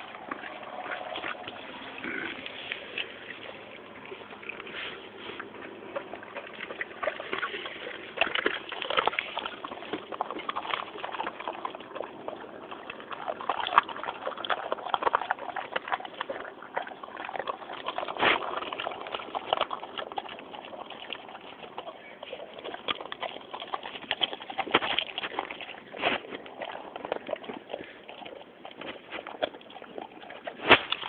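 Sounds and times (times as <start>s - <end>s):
dogs crunching bones: 0.0s - 31.0s.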